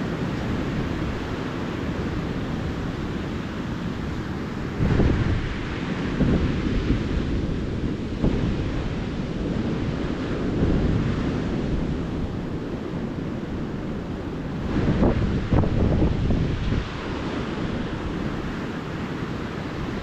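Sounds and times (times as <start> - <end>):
ocean surf on beach: 0.0 - 20.0
wind buffeting microphone: 0.0 - 20.0.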